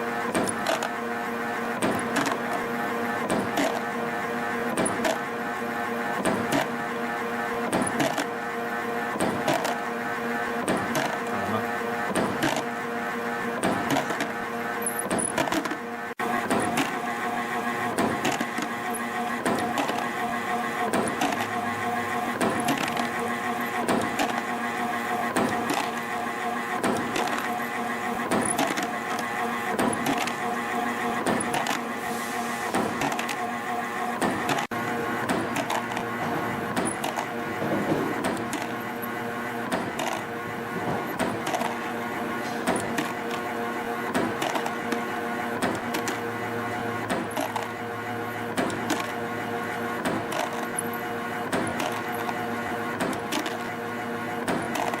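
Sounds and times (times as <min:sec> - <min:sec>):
machine motor whine: 0:00.0 - 0:55.0.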